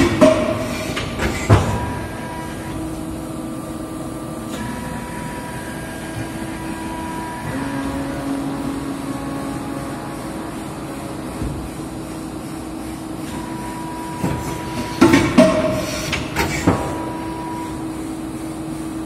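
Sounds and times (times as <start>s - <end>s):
injection moulding machine hydraulic hum: 0.0s - 19.0s.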